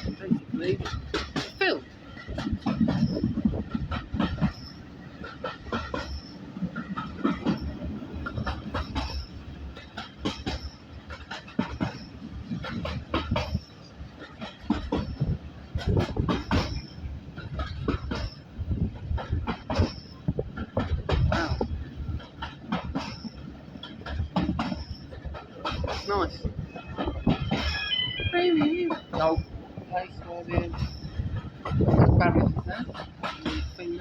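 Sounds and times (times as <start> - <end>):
railway carriage rumbling: 0.0 - 34.0
wheels clicking over rail joints: 0.0 - 34.0.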